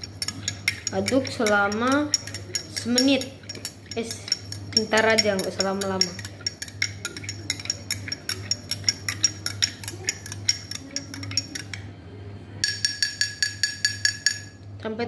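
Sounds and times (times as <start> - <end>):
spoon clinking against glass: 0.0 - 11.8, 12.6 - 14.6.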